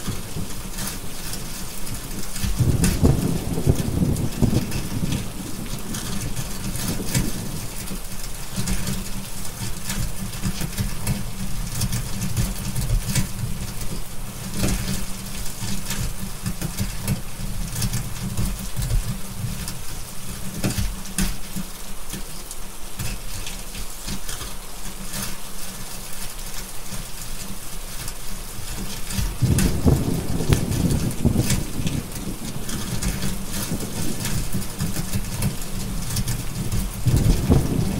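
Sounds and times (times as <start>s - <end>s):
steady rain: 0.0s - 37.9s
wood fire crackling: 0.0s - 37.9s.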